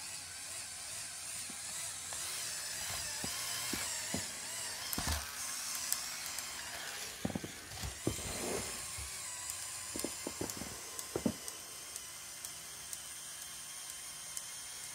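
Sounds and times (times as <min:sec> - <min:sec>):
motor mechanical whine: 0:00.0 - 0:14.9.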